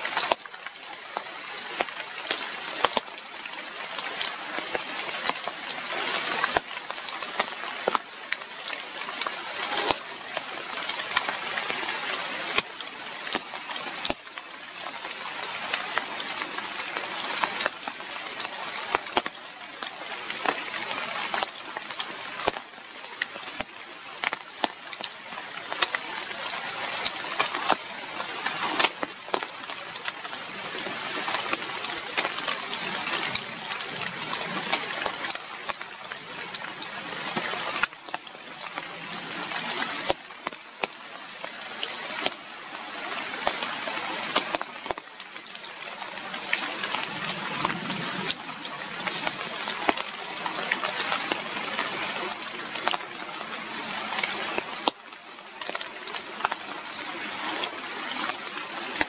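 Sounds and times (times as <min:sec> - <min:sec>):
rain on leaves: 0:00.0 - 0:59.0
raindrops clicking: 0:00.0 - 0:59.0.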